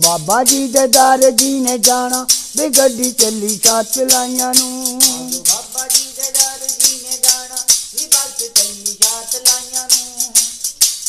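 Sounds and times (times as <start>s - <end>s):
devotional song melody: 0.0s - 10.8s
iron clappers with jingles: 0.0s - 11.0s.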